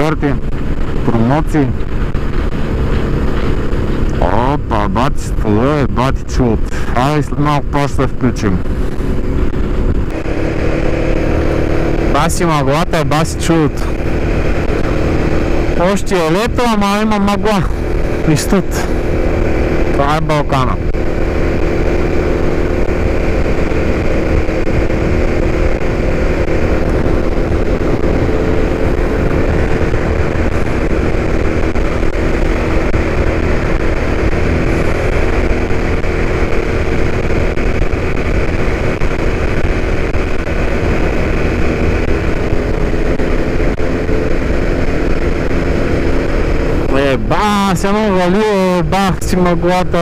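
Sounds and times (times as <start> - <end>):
motorcycle engine running: 0.0 - 50.0
wind and road noise: 0.0 - 50.0.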